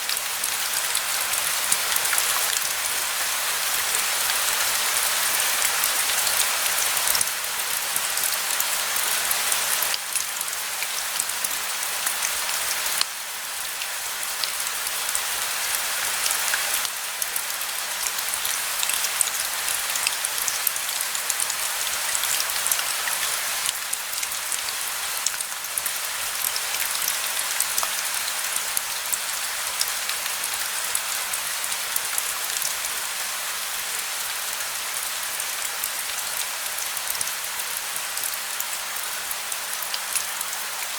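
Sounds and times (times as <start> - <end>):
raindrops ticking on a surface: 0.0 - 40.9
steady rain falling: 0.0 - 40.9.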